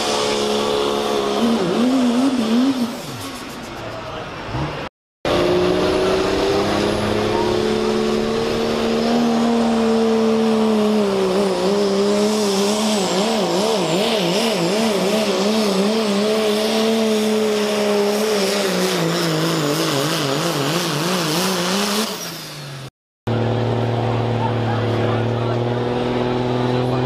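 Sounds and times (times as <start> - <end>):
diesel engine at full throttle: 0.0 - 27.0.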